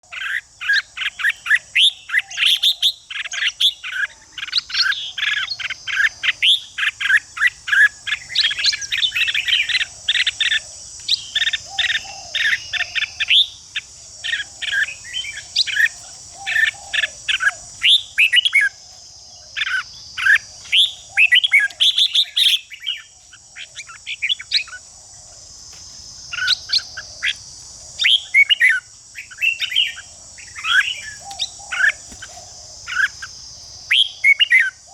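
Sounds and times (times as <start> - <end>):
birds singing and chattering: 0.0 - 34.9
high insect drone: 0.0 - 34.9.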